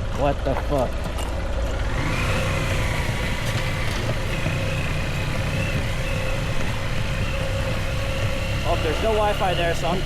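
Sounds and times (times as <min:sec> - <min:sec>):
high engine whine: 0:00.0 - 0:10.0
motorbike engine running: 0:00.0 - 0:10.0.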